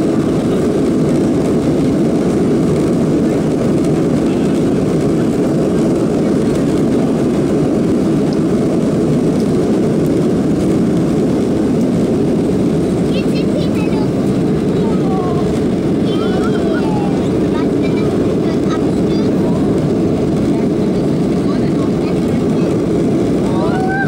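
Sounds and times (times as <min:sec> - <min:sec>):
jet engine cabin noise: 0:00.0 - 0:24.0.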